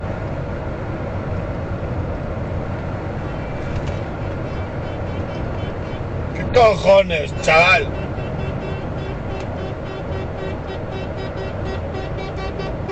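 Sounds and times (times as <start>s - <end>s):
truck engine and road rumble: 0.0s - 12.9s.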